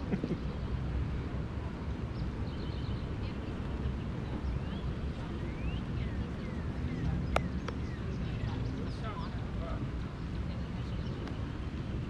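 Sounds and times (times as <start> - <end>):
low rumble of wind: 0.0 - 12.0
small birds chirping: 2.1 - 12.0.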